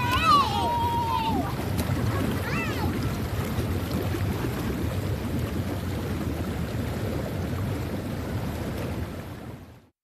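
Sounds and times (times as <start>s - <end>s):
pool water splashing: 0.0s - 9.9s.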